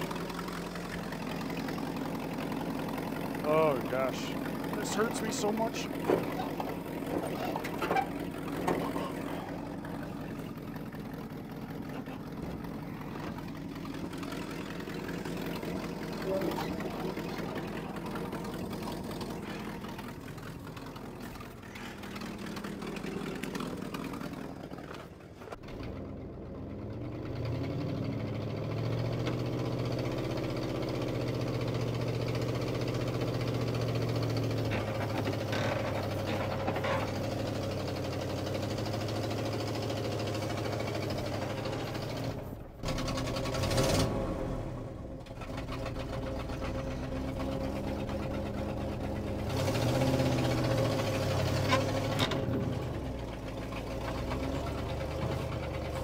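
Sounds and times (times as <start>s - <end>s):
truck engine running unevenly: 0.0s - 56.0s.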